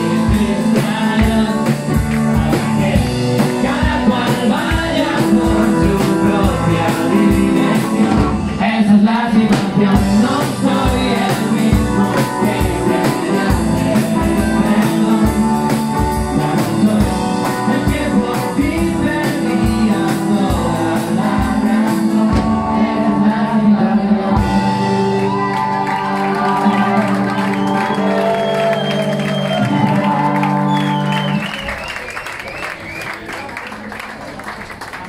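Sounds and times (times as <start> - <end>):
lead singer singing: 0.0 - 29.8
live rock band playing: 0.0 - 32.4.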